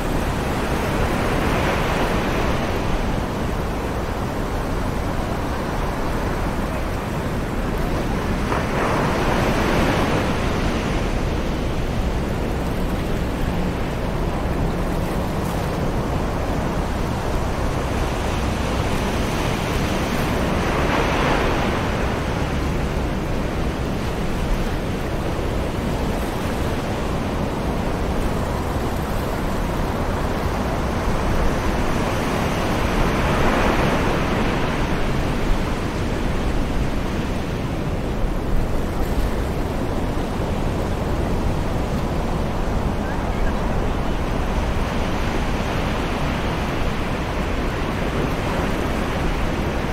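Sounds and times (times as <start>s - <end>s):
distant ocean waves breaking: 0.0s - 49.9s.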